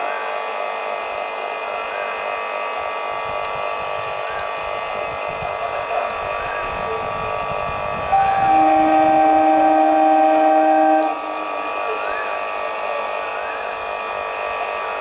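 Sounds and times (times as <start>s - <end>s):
electric train whine: 0.0s - 15.0s
low train rumble: 0.0s - 15.0s.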